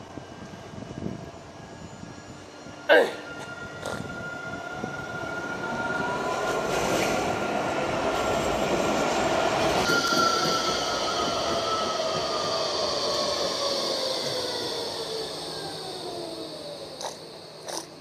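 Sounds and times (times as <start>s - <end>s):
tram rolling past: 0.0s - 18.0s.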